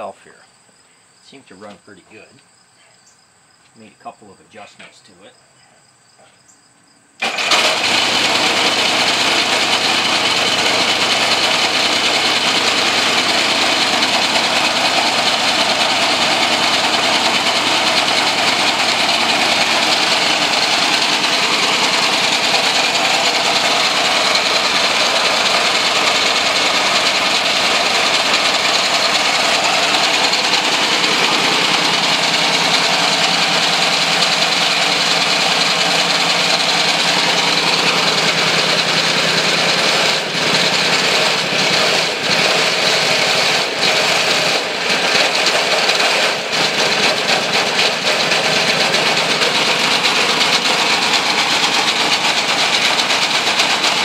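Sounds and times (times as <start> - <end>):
engine starting and running: 7.2 - 54.0.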